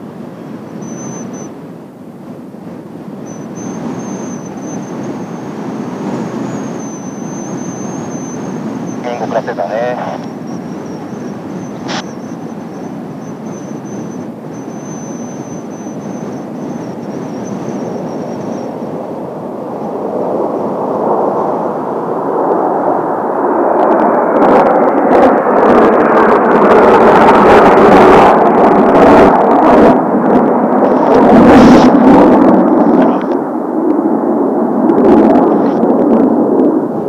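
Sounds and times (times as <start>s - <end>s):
jet planes flying past: 0.0s - 37.0s
wind buffeting microphone: 0.0s - 37.0s.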